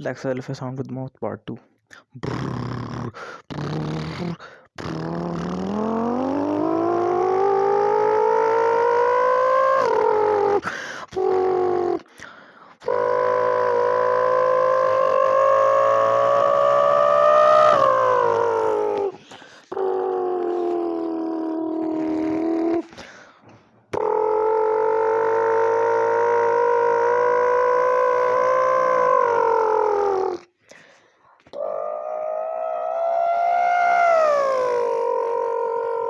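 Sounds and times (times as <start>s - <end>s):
person imitating engine revving: 2.1s - 12.1s, 12.8s - 23.0s, 24.0s - 30.5s, 31.5s - 36.0s.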